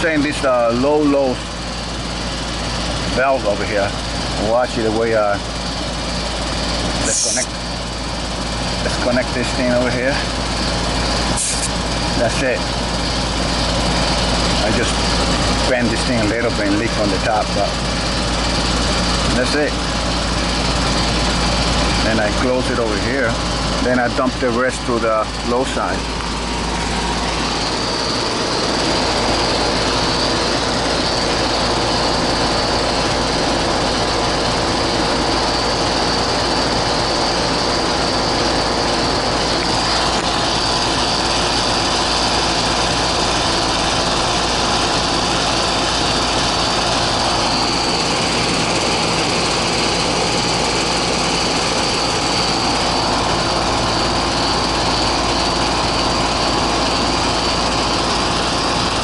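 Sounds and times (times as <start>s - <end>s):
air conditioner unit running: 0.0s - 59.0s.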